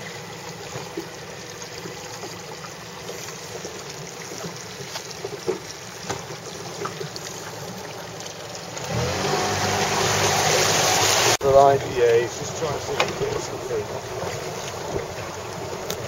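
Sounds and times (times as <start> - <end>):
water lapping against boat: 0.0 - 16.0.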